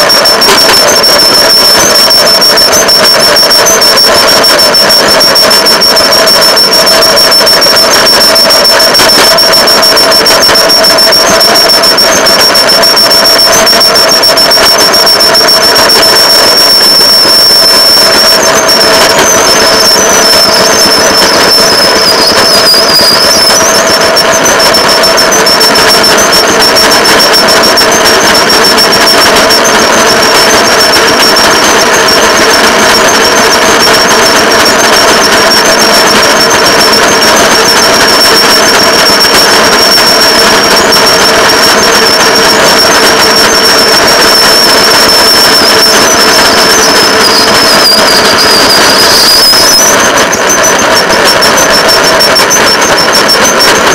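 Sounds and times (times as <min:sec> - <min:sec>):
high-pitched whine: 0:00.0 - 0:53.9.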